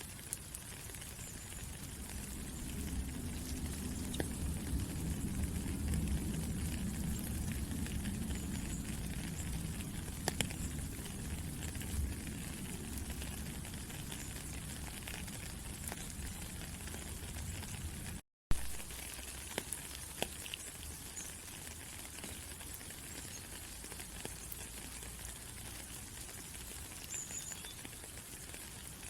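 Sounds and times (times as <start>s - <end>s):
raindrops ticking: 0.0s - 29.0s
steady rain falling: 0.0s - 29.0s.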